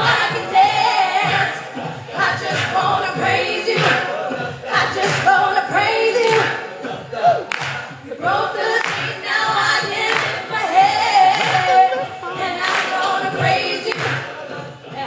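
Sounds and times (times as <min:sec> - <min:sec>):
gospel group singing in harmony: 0:00.0 - 0:15.0.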